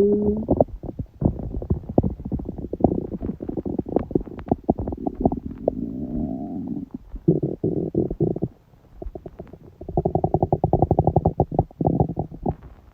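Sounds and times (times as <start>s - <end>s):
stomach gurgling and rumbling: 0.0s - 12.9s.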